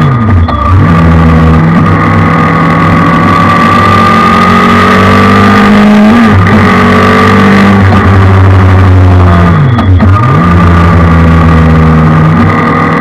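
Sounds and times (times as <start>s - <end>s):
engine revving at high revs: 0.0s - 13.0s.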